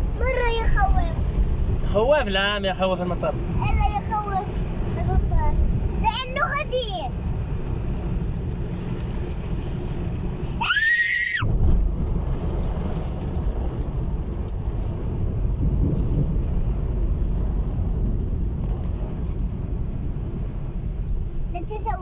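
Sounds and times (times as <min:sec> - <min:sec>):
strong low rumble: 0:00.0 - 0:10.7, 0:11.4 - 0:22.0.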